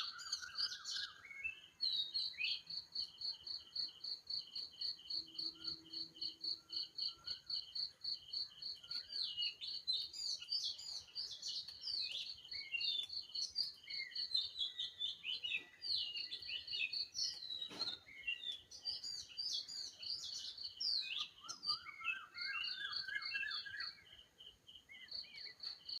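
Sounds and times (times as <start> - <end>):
birds singing and chirping: 0.0 - 26.0
steady high bird chirp: 0.0 - 26.0.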